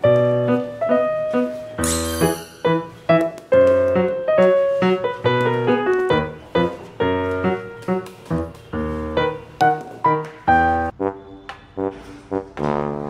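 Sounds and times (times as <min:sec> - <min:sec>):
keyboard tune: 0:00.0 - 0:12.1.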